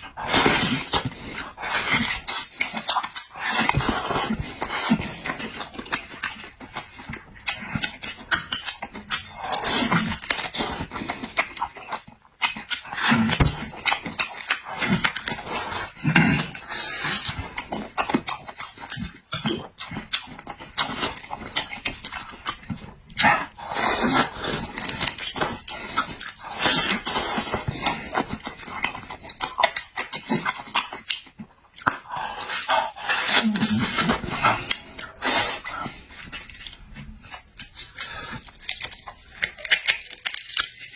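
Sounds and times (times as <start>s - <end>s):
person chewing and lip-smacking: 0.0s - 40.9s.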